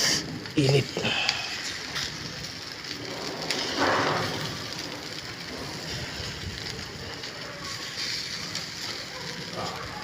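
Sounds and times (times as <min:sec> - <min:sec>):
chicken sizzling on a grill: 0:00.0 - 0:10.0.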